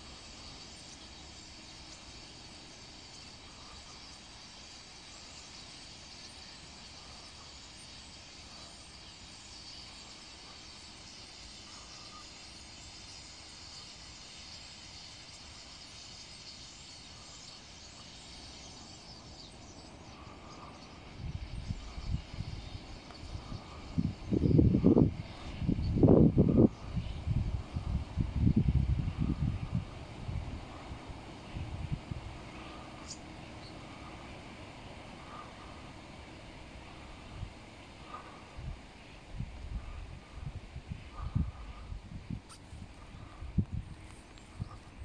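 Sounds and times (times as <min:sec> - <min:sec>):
low rumbling buffets: 0:00.0 - 0:45.0
starlings twittering: 0:00.0 - 0:45.0.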